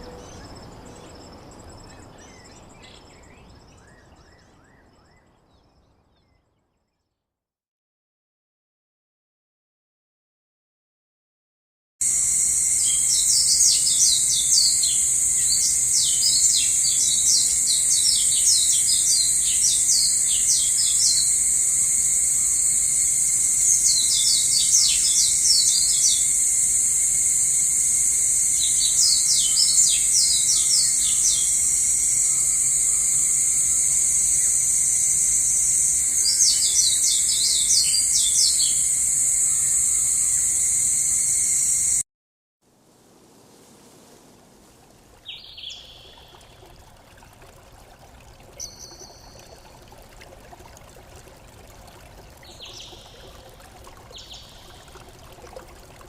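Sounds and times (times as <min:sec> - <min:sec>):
insects droning: 0:00.0 - 0:05.6, 0:12.0 - 0:42.0, 0:42.9 - 0:56.0.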